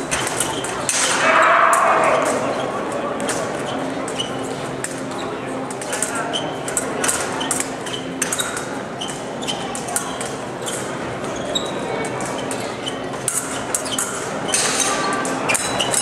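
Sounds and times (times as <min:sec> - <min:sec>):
murmur of voices in hall: 0:00.0 - 0:16.0.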